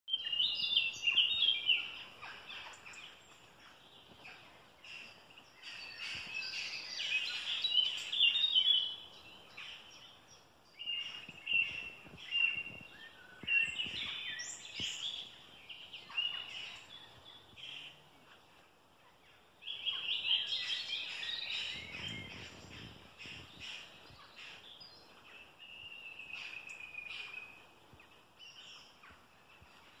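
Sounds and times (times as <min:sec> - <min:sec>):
songbirds singing: 0:00.1 - 0:30.0.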